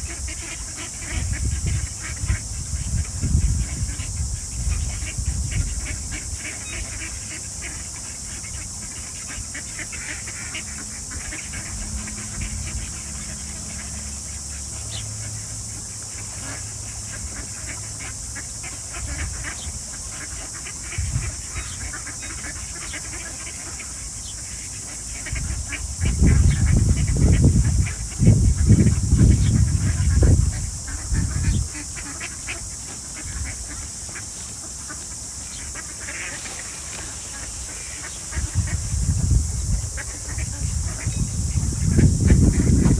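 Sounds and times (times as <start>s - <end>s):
ducks and geese calling: 0.0s - 42.9s
steady high hiss: 0.0s - 42.9s.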